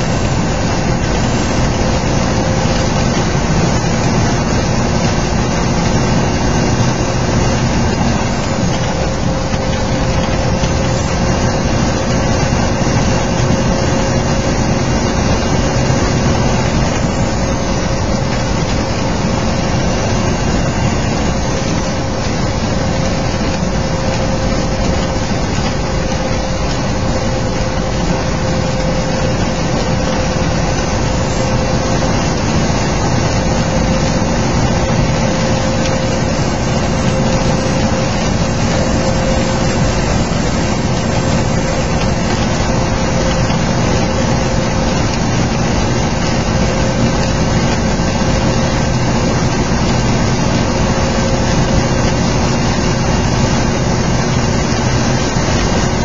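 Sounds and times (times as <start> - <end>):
heavy rain and road spray hiss: 0.0 - 56.0
truck engine drone: 0.0 - 56.0.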